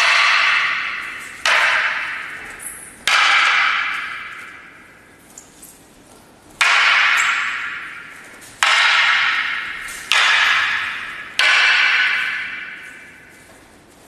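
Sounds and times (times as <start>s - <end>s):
wooden staffs clacking: 0.0s - 14.0s.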